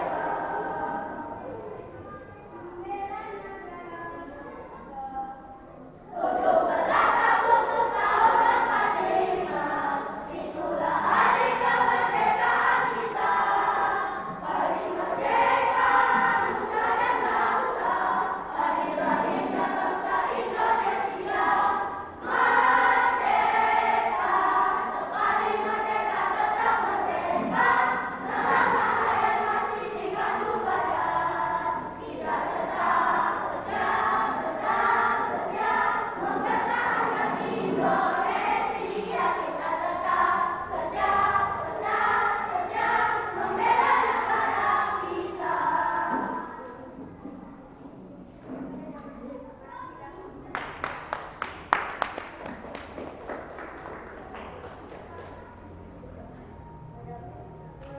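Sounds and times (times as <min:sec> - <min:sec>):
children's choir singing: 0:00.0 - 0:57.9.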